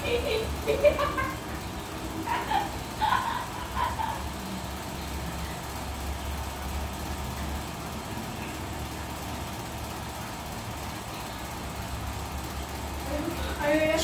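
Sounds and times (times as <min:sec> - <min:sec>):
floor fan motor hum: 0:00.0 - 0:14.0.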